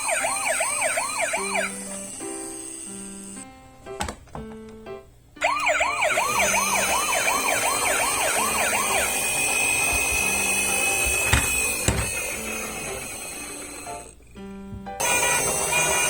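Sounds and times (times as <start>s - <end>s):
toy ambulance electronic siren: 0.0s - 3.4s, 5.4s - 14.2s, 15.0s - 16.0s.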